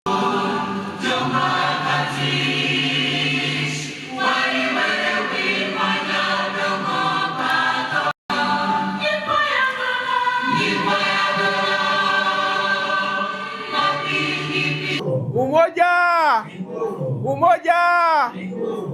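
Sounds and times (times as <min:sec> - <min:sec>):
choir singing held chords: 0:00.1 - 0:15.3.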